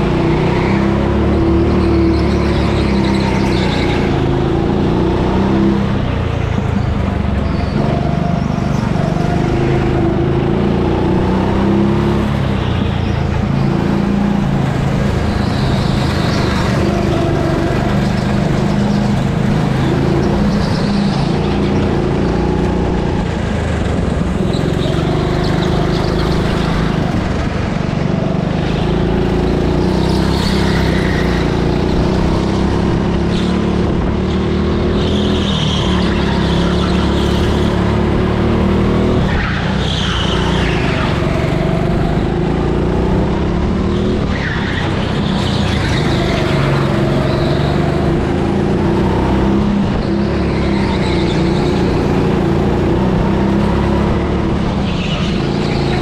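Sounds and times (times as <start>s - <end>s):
go-kart engine revving: 0.0s - 56.0s
other go-kart engines: 0.0s - 56.0s.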